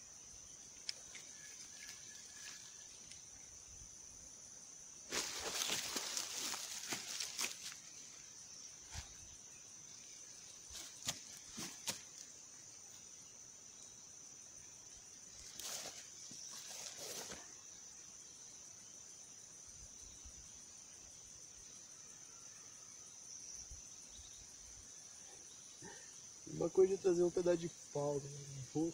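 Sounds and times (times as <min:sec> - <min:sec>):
insects chirring: 0:00.0 - 0:28.9.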